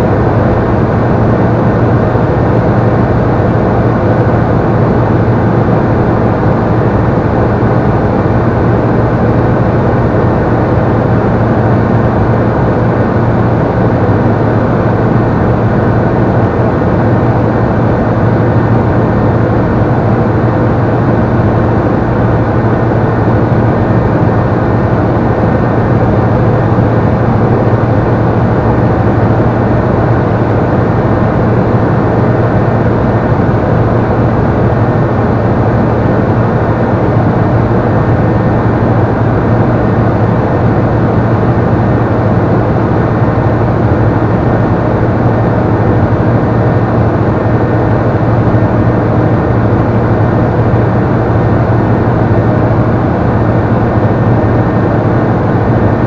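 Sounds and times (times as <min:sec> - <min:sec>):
broad rushing noise: 0:00.0 - 0:56.0
light aircraft engine drone: 0:00.0 - 0:56.0.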